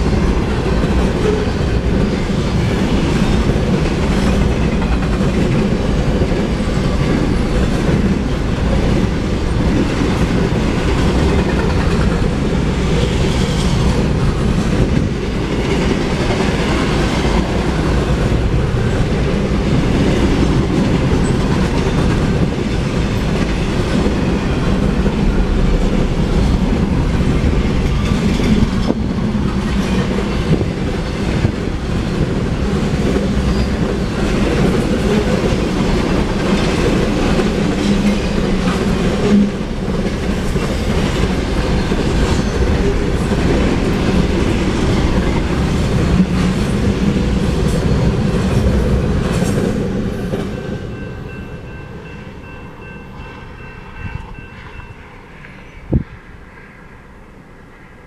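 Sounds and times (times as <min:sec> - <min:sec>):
train wheels clacking on rails: 0:00.0 - 0:56.7
freight train rumbling past: 0:00.0 - 0:58.0.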